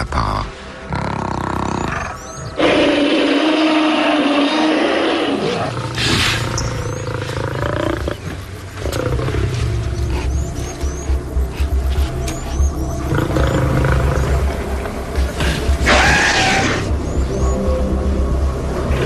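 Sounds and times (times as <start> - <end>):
large animals calling: 0.0 - 17.8.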